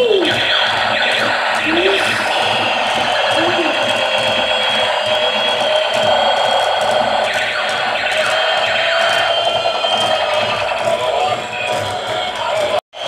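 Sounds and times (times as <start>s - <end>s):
electronic toy sound effects: 0.0s - 12.4s
toy gear-motor whir: 0.8s - 12.8s.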